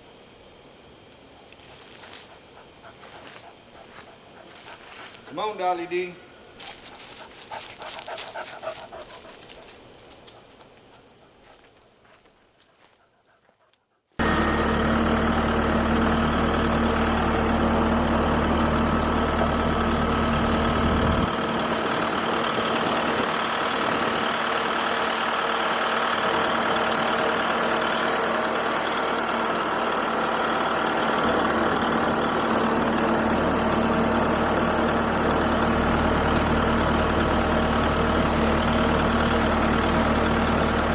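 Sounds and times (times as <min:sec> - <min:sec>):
tractor diesel engine running: 0:01.1 - 0:13.3, 0:14.2 - 0:40.9.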